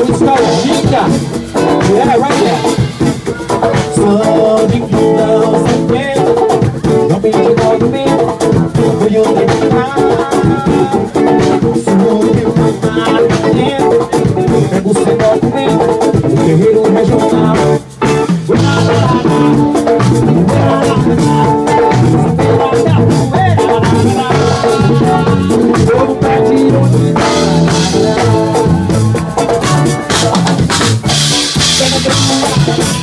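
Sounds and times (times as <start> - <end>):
live dance band music: 0.0 - 33.0.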